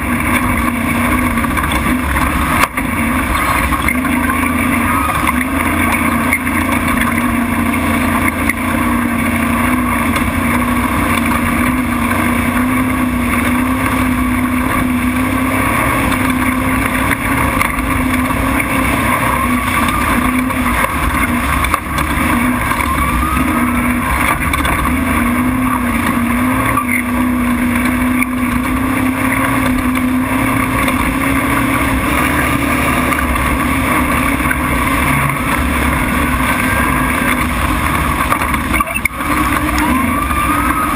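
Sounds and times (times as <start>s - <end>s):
constant rushing noise: 0.0s - 40.9s
truck engine revving hard: 0.0s - 40.9s.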